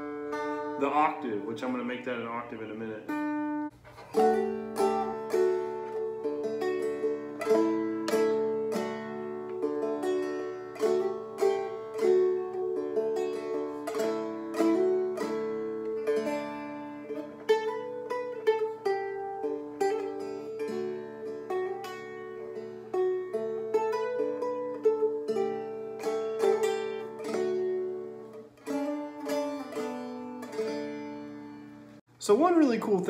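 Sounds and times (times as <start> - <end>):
dulcimer strumming with drone: 3.1 - 32.0.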